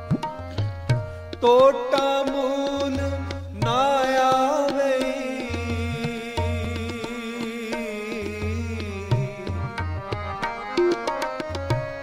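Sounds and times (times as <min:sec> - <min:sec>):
tabla strokes: 0:00.0 - 0:12.0.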